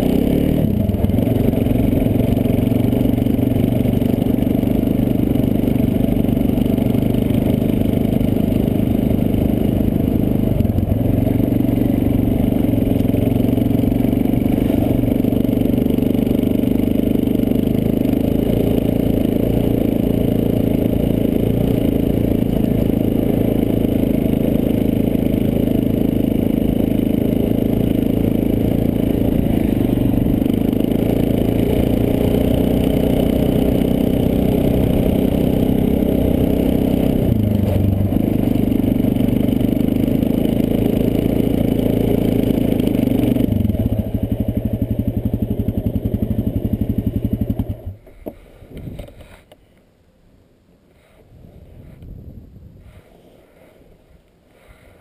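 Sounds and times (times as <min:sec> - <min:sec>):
quad engine running: 0:00.0 - 0:49.5.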